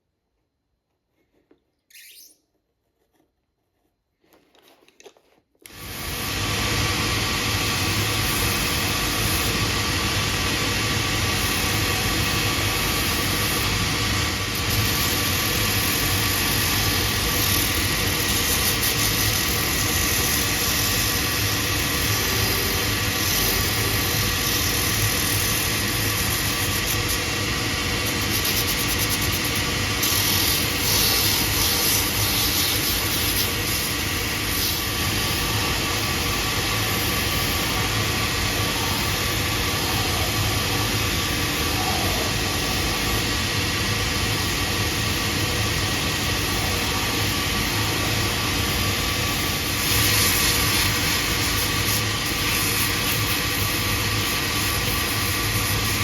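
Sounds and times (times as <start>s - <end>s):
electric machine humming: 5.6s - 56.0s.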